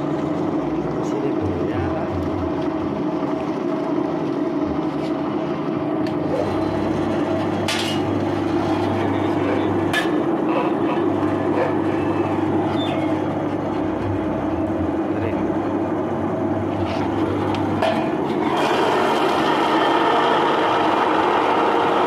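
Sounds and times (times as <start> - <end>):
grinding mill engine running: 0.0 - 22.0.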